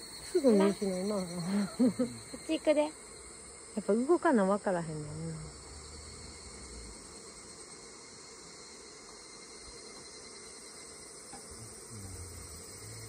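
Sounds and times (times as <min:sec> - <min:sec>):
chorus of insects: 0:00.0 - 0:13.0.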